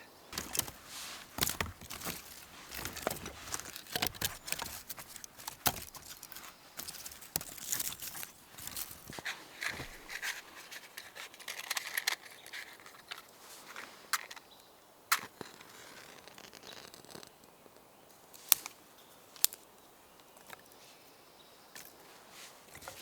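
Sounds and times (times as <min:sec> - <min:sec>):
kindling crinkling and crackling: 0:00.3 - 0:18.8, 0:21.8 - 0:23.0.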